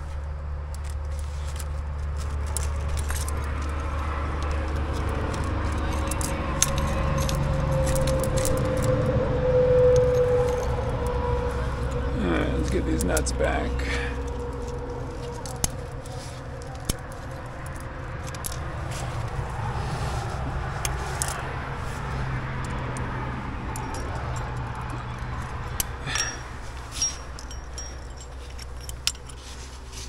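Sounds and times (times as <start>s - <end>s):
climbing gear clinking: 0.0s - 30.0s
low rumble: 2.2s - 30.0s.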